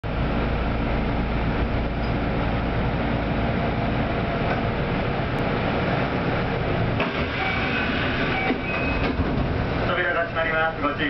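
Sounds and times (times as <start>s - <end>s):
train wheels rumbling: 0.1s - 11.0s.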